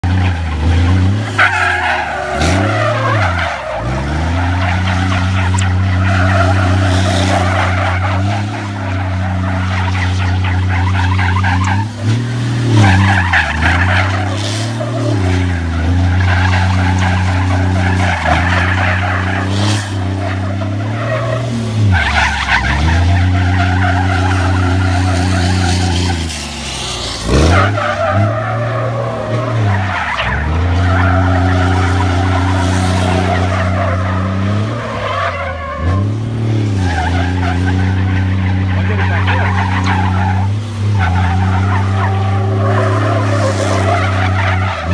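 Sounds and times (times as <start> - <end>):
truck diesel engine under load: 0.0 - 44.9
tyres squealing and skidding: 0.0 - 44.9.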